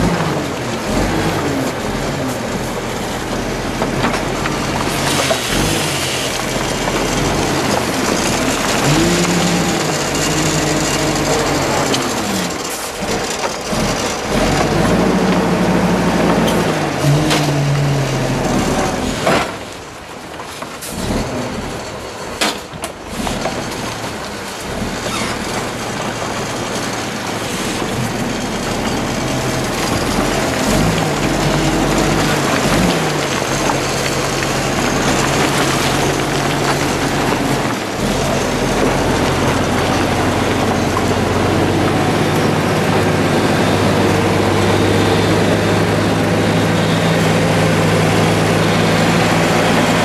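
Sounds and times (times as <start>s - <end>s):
heavy machinery engine revving: 0.0s - 19.6s, 20.8s - 50.0s.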